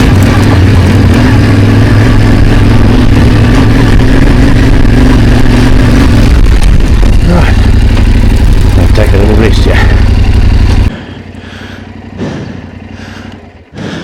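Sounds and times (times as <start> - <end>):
motorcycle engine running: 0.0 - 14.0
wind and riding noise: 0.0 - 14.0.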